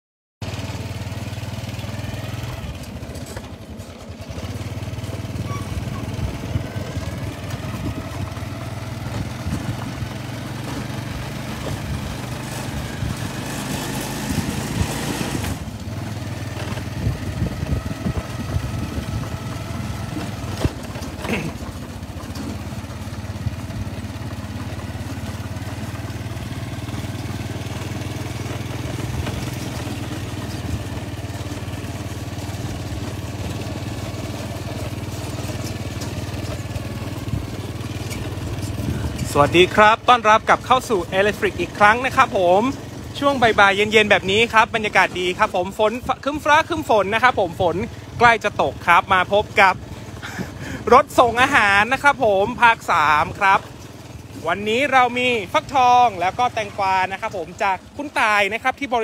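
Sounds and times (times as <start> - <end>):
vehicle engine running: 0.4 - 59.0.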